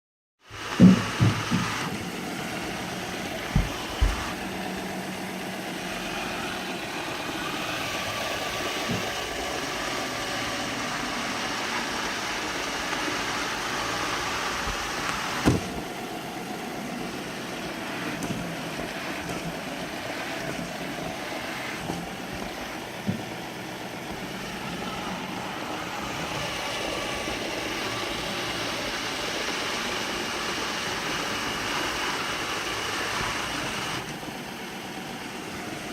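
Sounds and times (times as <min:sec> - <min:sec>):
robot vacuum whirring: 0:00.5 - 0:35.9.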